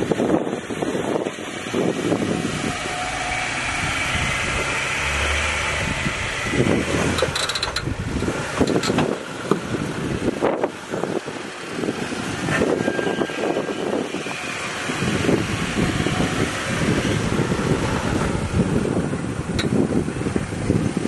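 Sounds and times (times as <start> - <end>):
engine running at low revs: 0.0 - 21.0
wind buffeting microphone: 0.0 - 21.0.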